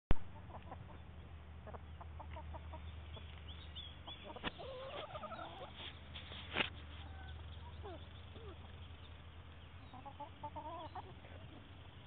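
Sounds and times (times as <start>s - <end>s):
chickens clucking: 0.1s - 12.0s.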